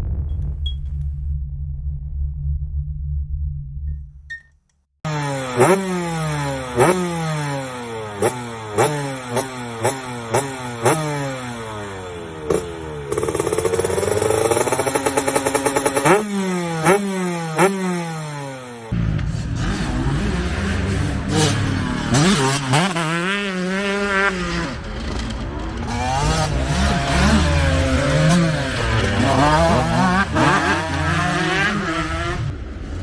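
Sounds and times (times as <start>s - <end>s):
motocross engine revving: 5.1s - 33.0s.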